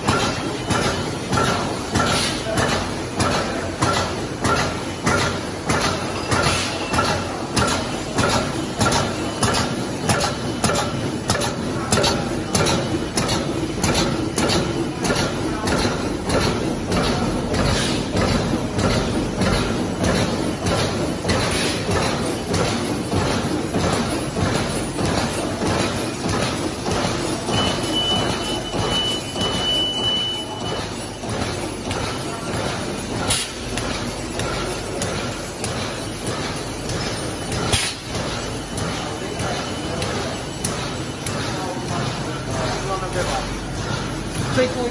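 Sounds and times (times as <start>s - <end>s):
machine rhythmic clatter: 0.0s - 44.9s.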